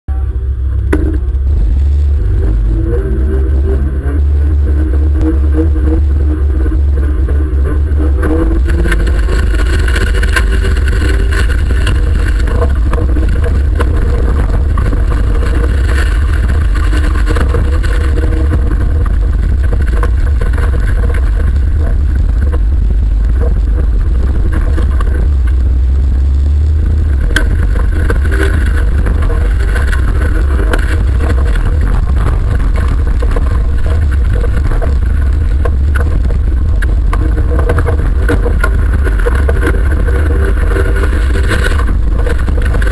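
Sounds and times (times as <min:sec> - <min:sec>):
racing car engine rumbling: 0:00.0 - 0:42.9.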